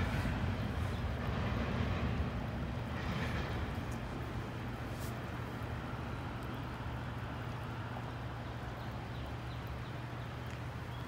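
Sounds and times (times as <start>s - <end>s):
constant low hum: 0.0s - 11.0s
wheels rumbling on rail: 0.0s - 11.0s.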